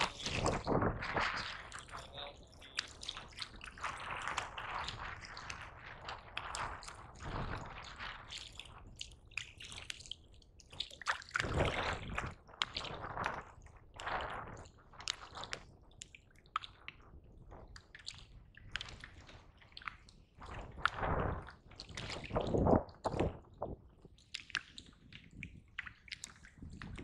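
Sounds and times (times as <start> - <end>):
water drips: 0.0 - 23.3, 24.0 - 27.0
water lapping against kayak hull: 0.0 - 27.0.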